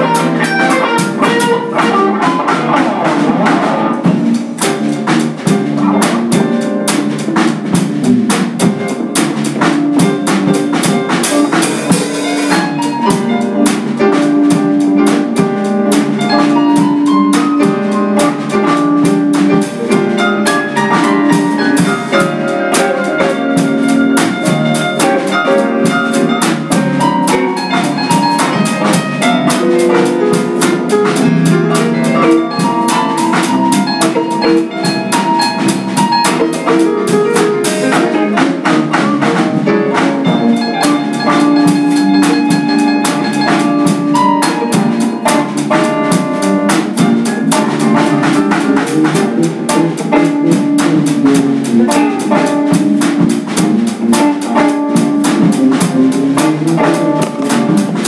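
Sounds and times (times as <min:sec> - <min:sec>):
drum kit: 0:00.0 - 0:58.0
electric bass: 0:00.0 - 0:58.0
electric guitars: 0:00.0 - 0:58.0.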